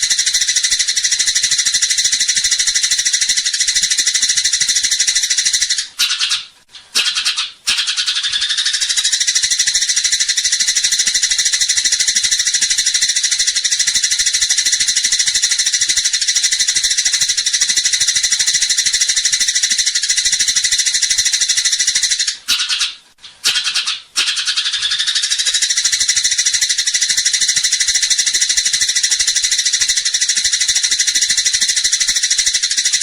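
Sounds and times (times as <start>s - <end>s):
sparrows chattering: 0.0s - 33.0s.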